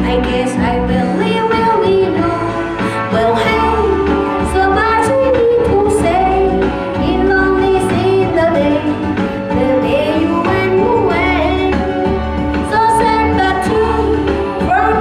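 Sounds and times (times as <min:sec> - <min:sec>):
amplified backing music: 0:00.0 - 0:15.0
woman singing into microphone: 0:00.0 - 0:15.0.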